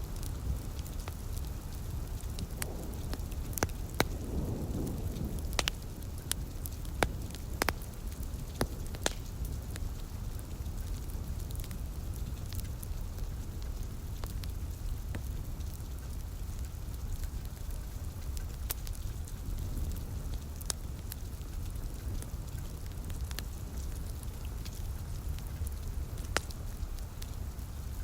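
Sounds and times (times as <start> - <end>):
low continuous rumble: 0.0 - 28.0
rain hiss: 0.0 - 28.0
wood fire crackling and popping: 0.0 - 28.0.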